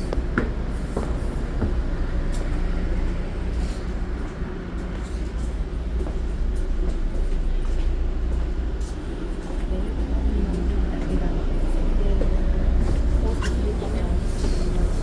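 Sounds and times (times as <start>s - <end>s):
train interior hum: 0.0s - 15.0s.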